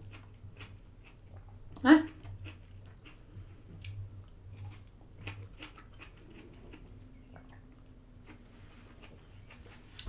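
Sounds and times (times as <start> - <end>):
faint chewing and mouth sounds: 0.0 - 10.0
low steady hum: 0.0 - 10.0.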